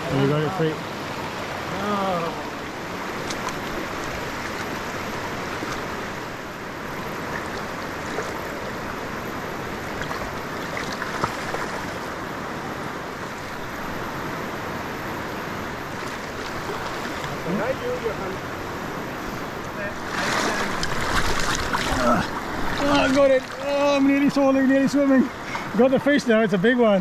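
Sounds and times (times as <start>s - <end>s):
river water flowing over stones: 0.0s - 27.0s.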